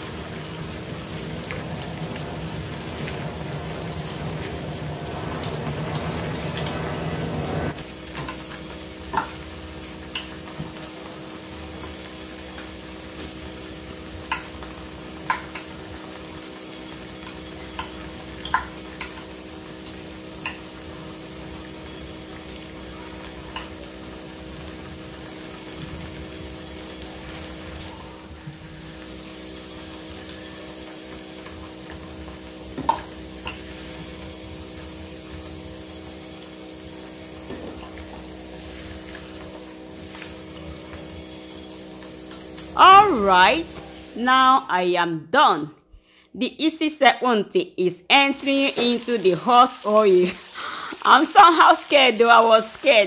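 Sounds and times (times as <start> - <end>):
plantain sizzling in hot oil: 0.0 - 44.3, 48.2 - 53.0.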